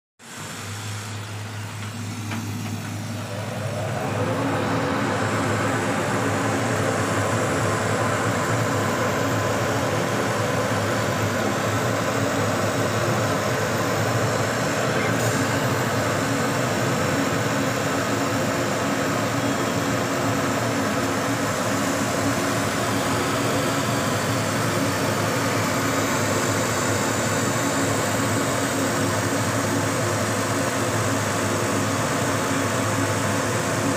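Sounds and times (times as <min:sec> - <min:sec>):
laser cutter hum and whir: 0:00.3 - 0:33.9.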